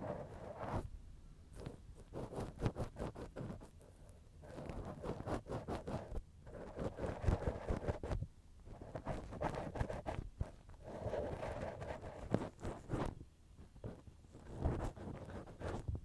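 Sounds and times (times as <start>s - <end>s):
cotton swab scraping microphone: 1.5s - 16.0s.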